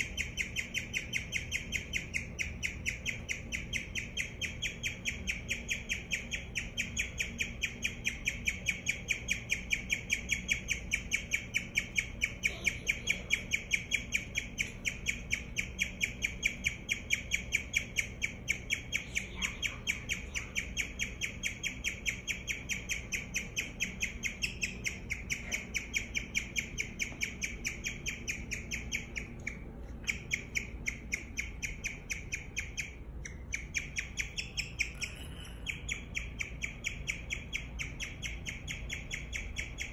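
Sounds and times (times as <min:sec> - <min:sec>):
guinea pig chirping: 0:00.0 - 0:39.9.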